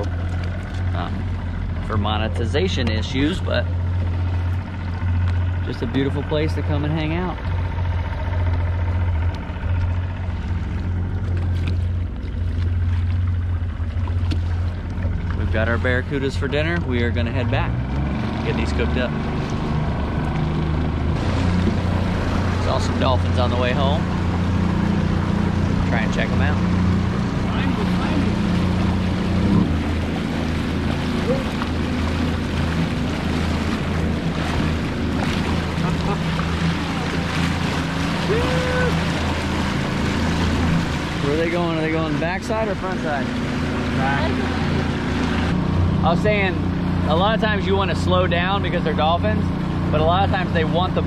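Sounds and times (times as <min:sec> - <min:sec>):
outboard motor humming: 0:00.0 - 0:51.0
water splashing against hull: 0:00.0 - 0:51.0.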